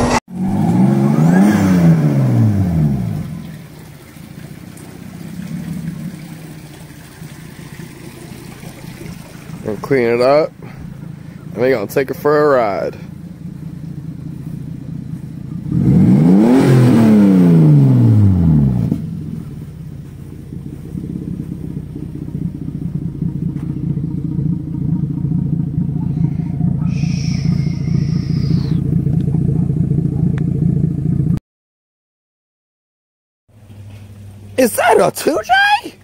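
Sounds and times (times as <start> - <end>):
car engine idling: 0.0 - 31.4, 33.5 - 36.0
engine revving: 0.0 - 31.4.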